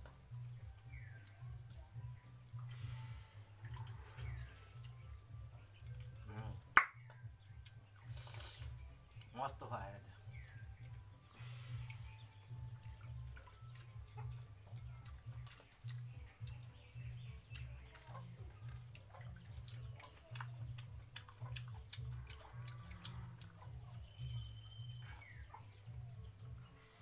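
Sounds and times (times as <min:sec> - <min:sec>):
fingers clicking on metal bowls: 0:03.6 - 0:11.2, 0:12.0 - 0:26.8.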